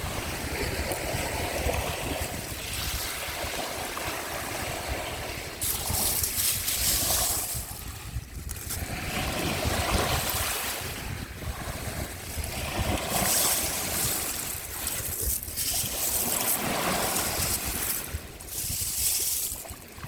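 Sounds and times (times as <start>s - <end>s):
sea waves washing ashore: 0.0s - 20.0s
wind on microphone: 0.0s - 20.0s.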